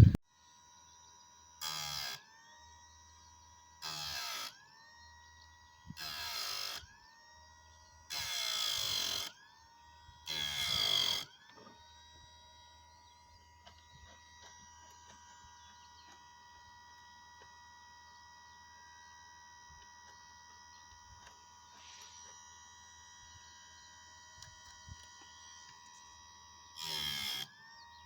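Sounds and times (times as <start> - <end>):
small electric motor whirring: 0.0 - 28.0.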